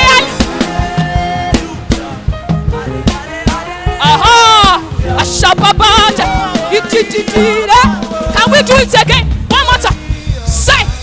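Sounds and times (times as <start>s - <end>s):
church band with drums and keyboard: 0.0s - 11.0s.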